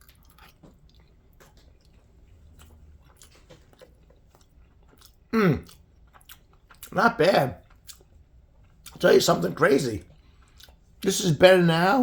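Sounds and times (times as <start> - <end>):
person chewing spaghetti: 0.0 - 11.1.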